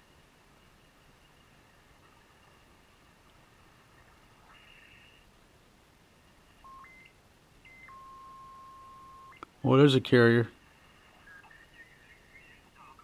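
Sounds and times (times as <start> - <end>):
faint radio band hiss: 0.0 - 13.0.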